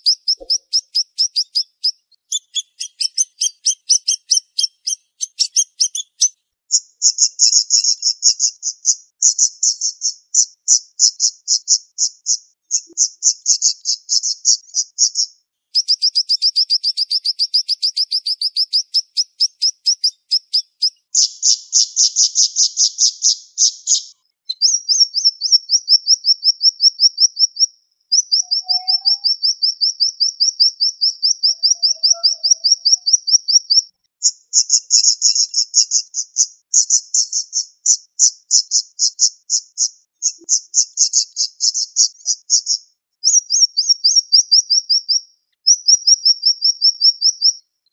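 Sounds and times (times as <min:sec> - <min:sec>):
bird singing in fast trills: 0:00.0 - 0:47.6.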